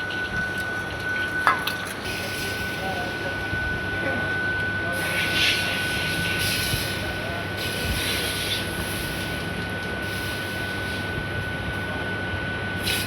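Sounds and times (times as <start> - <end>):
high whine: 0.0 - 12.8
water cooler compressor humming: 0.0 - 13.0.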